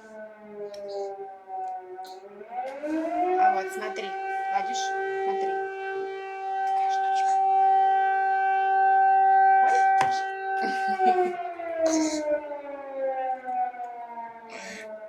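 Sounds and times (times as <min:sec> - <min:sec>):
air raid siren winding down: 0:00.0 - 0:15.0.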